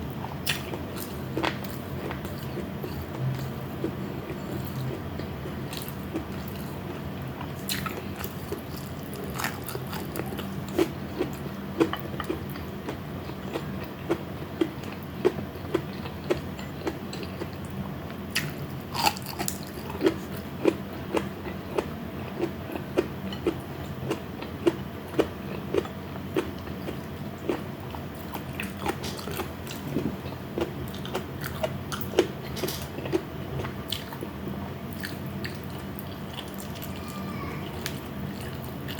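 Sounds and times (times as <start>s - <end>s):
close-miked chewing: 0.2s - 34.3s, 34.9s - 38.9s.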